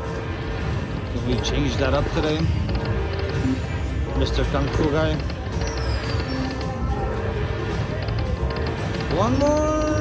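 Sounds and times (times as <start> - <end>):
slot machine electronic music: 0.0 - 10.0.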